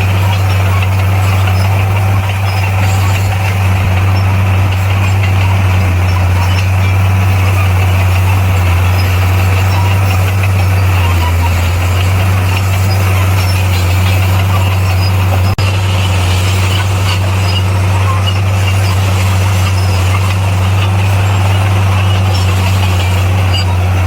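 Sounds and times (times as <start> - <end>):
bulldozer engine drone: 0.0 - 24.0.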